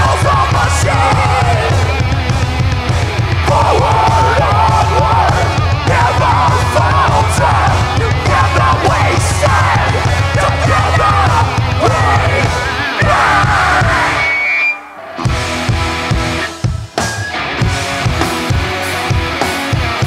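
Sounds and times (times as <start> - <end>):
fast dense drumming: 0.0 - 14.2, 15.2 - 20.0
distorted electric guitars: 0.0 - 20.0.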